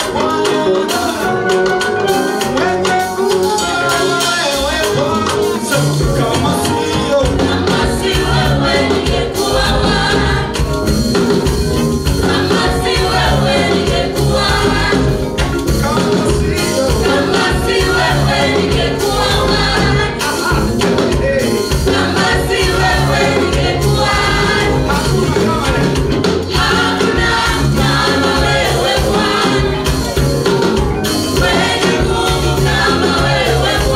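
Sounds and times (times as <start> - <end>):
praise band and singers performing: 0.0 - 33.9.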